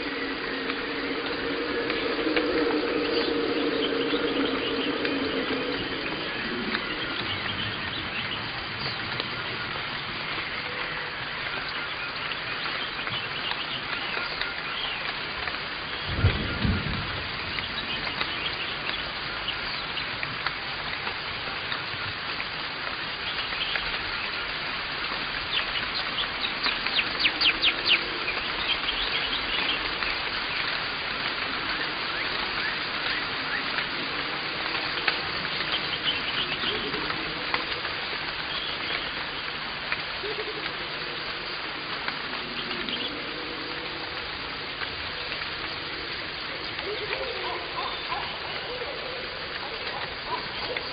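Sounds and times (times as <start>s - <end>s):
birds chirping: 0.0s - 20.2s, 22.9s - 50.9s
microphone hiss: 0.0s - 50.9s.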